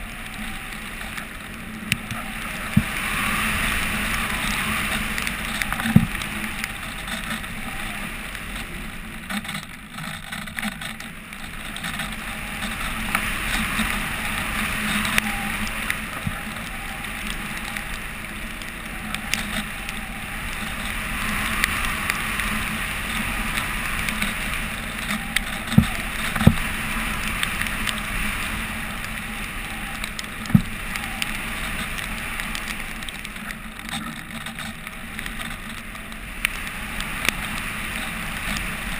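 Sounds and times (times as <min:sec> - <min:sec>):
low hum: 0:00.0 - 0:38.9
wind rushing over camera: 0:00.0 - 0:38.9.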